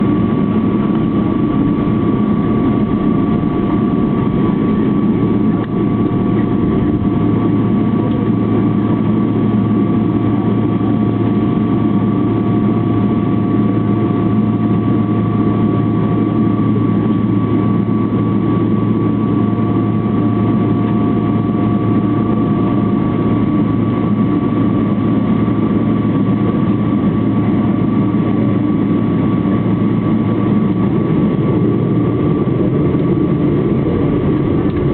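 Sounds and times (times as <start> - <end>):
jet engines droning in cabin: 0.0 - 34.9.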